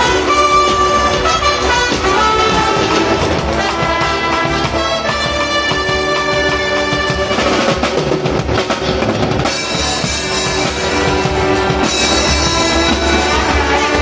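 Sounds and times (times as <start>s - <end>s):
brass section holding notes: 0.0s - 8.3s, 10.0s - 14.0s
drum kit beating: 0.0s - 14.0s.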